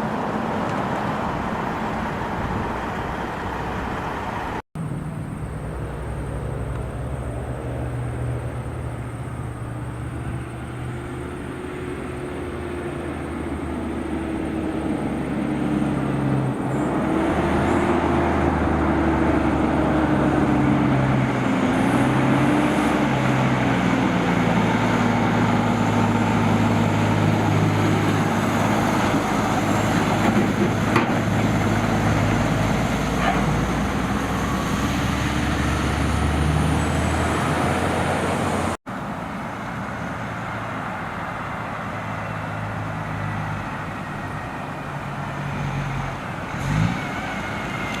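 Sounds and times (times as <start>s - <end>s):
truck diesel engine running: 0.0s - 46.5s.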